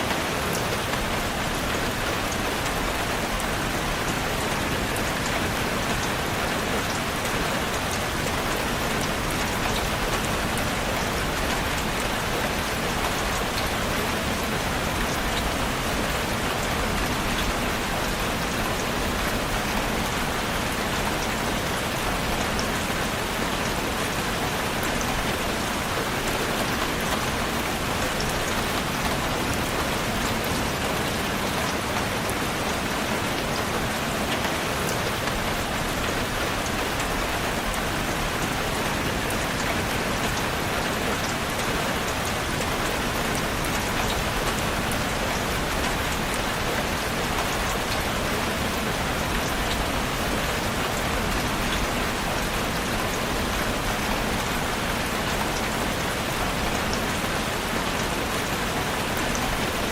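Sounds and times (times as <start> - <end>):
patter of raindrops: 0.0 - 59.9
steady rain hissing: 0.0 - 59.9.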